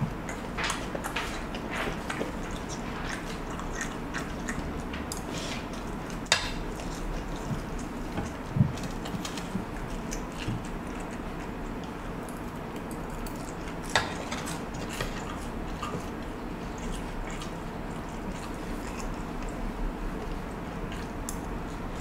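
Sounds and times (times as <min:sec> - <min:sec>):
soft chewing: 0:00.0 - 0:22.0.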